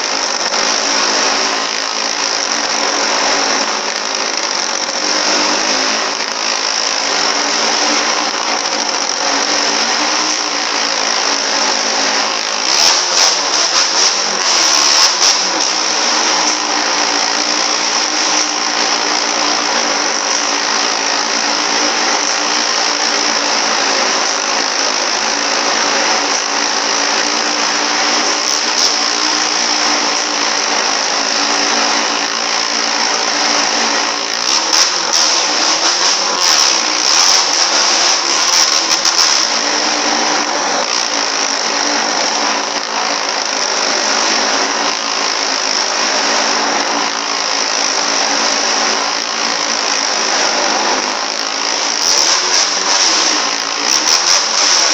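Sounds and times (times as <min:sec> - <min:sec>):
motorcycle engine revving hard: 0:00.0 - 0:54.9.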